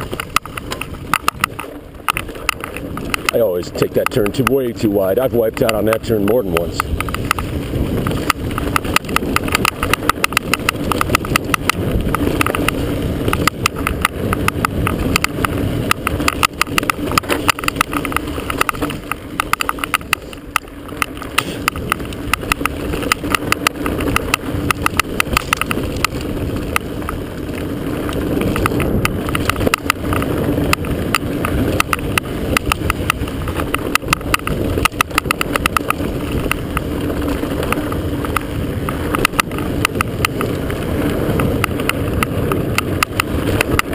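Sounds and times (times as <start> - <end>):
tyres rushing on dirt: 0.0 - 43.9.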